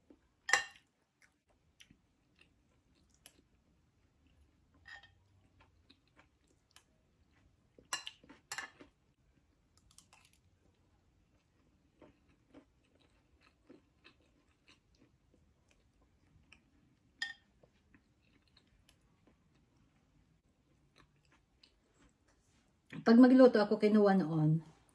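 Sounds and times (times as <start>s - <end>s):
soft chewing: 0.0s - 23.1s.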